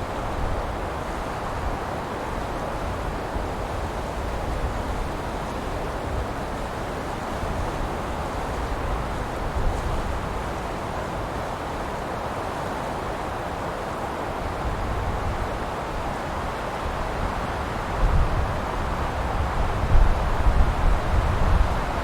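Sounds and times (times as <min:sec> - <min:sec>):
wind blowing through pine trees: 0:00.0 - 0:22.0.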